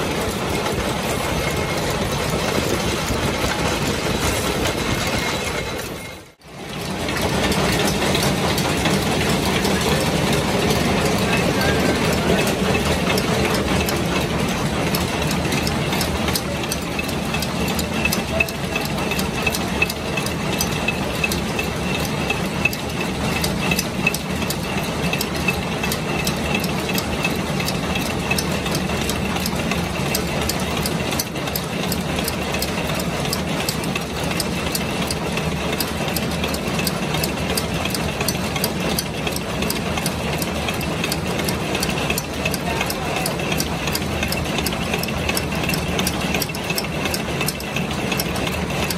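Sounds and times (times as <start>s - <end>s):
machine rattling and clicking: 0.0s - 48.9s.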